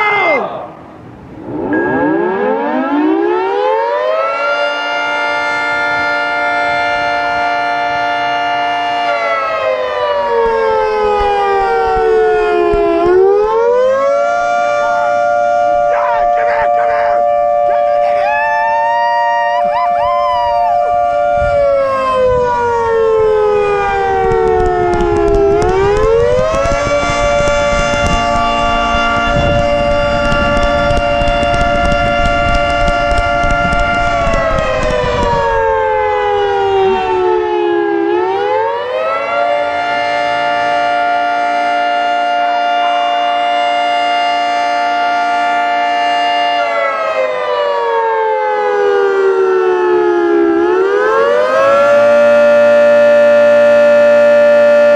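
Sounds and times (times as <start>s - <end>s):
warning siren chord sliding: 1.0s - 54.9s.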